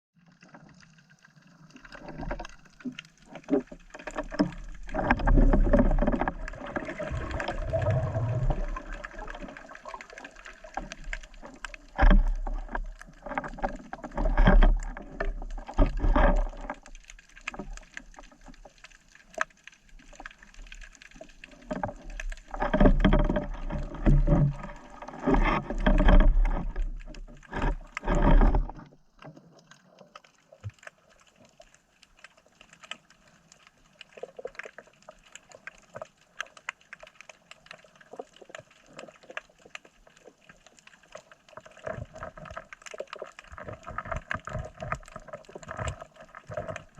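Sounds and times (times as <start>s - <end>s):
water sloshing and gurgling: 0.2s - 46.9s.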